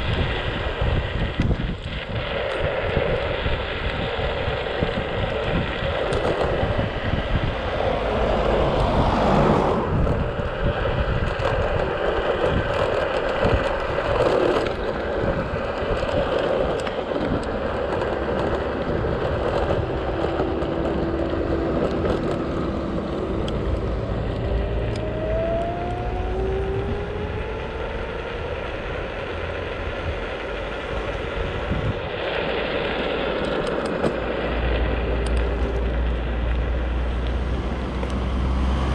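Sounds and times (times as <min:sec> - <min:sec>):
scooter engine running: 0:00.0 - 0:38.9
wind and road noise: 0:00.0 - 0:38.9.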